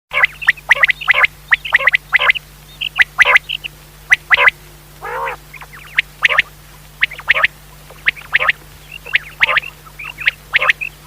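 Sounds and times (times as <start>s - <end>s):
quail calling: 0.1s - 11.0s
steady low hum: 0.1s - 11.0s.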